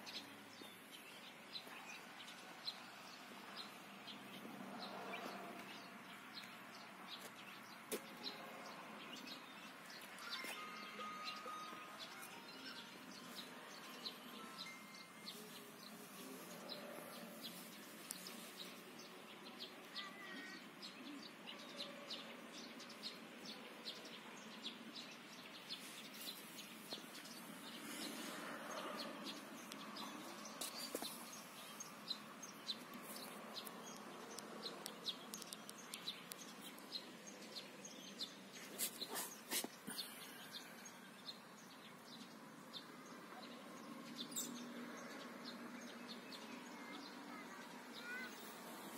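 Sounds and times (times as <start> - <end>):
faint birds chirping: 0.0 - 48.9.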